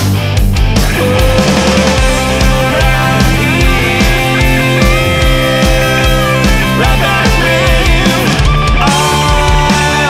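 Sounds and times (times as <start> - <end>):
bass guitar: 0.0 - 10.0
distorted electric guitar: 0.0 - 10.0.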